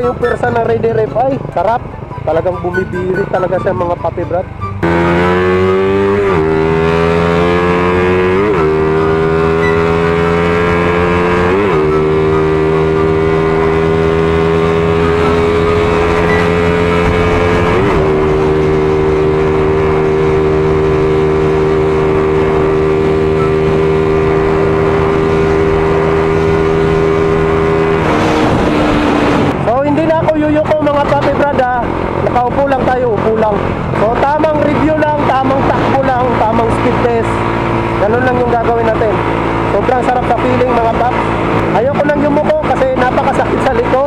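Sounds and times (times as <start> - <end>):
motorcycle engine accelerating: 4.6 - 44.0.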